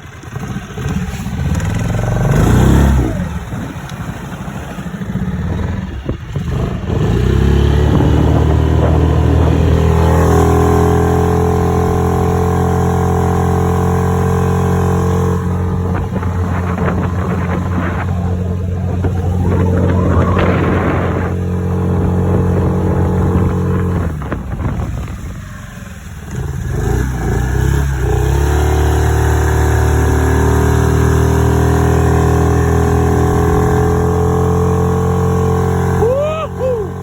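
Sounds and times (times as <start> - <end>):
outboard motor running: 0.0 - 37.0.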